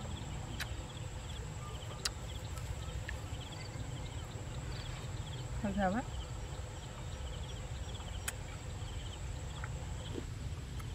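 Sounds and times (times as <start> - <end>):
high insect whine: 0.0 - 10.2.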